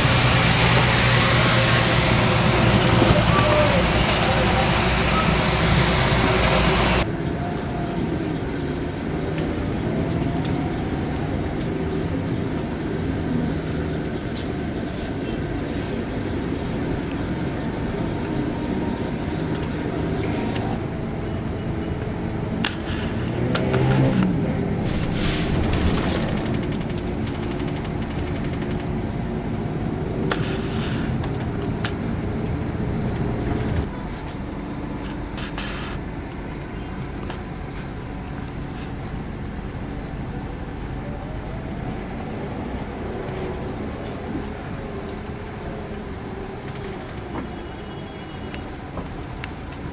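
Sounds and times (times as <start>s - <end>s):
bus engine and road rumble: 0.0s - 49.9s.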